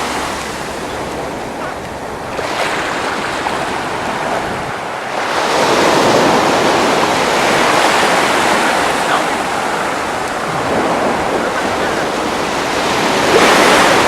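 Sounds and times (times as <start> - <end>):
waves breaking on beach: 0.0 - 14.0
wind buffeting microphone: 0.0 - 14.0.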